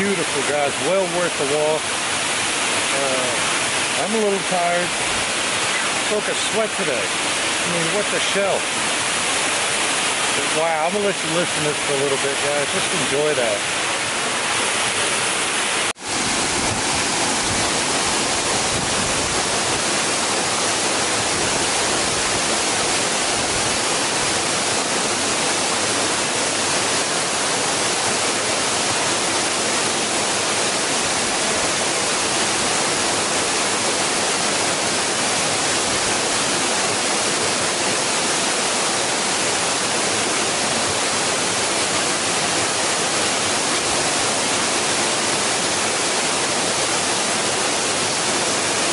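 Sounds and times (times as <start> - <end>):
waterfall roaring: 0.0 - 48.9.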